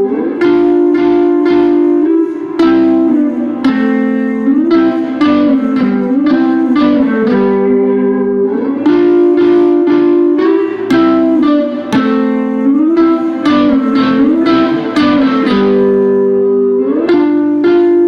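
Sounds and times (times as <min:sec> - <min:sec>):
guitar plucked chords: 0:00.0 - 0:18.0.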